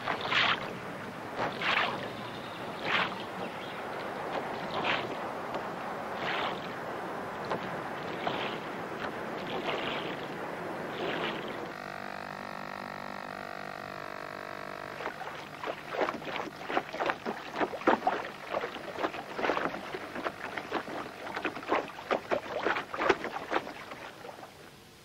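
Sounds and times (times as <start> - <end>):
water splashing against boat hull: 0.0 - 11.8, 14.8 - 24.7
steady motor hum: 0.0 - 25.0.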